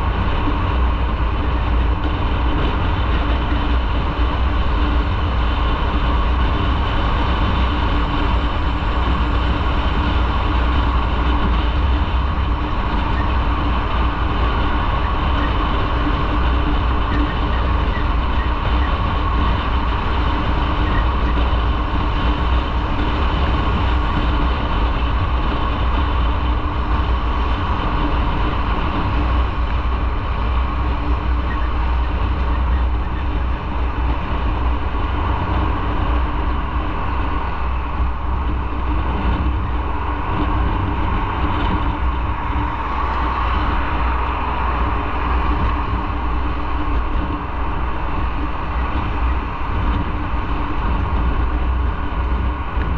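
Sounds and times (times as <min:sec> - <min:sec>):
motorcycle engine rumble: 0:00.0 - 0:52.9.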